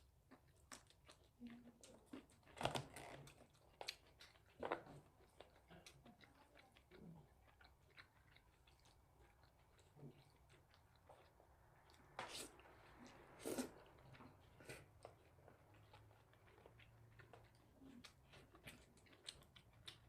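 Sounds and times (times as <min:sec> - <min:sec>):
chewing and mouth smacks: 0:00.0 - 0:20.0.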